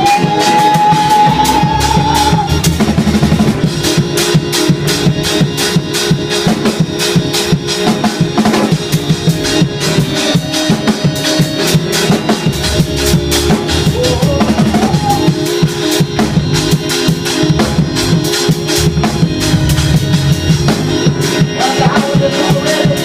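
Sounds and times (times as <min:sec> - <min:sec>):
drum kit fast beat: 0:00.0 - 0:23.0
high held note: 0:00.0 - 0:23.0
live gospel band music: 0:00.0 - 0:23.0.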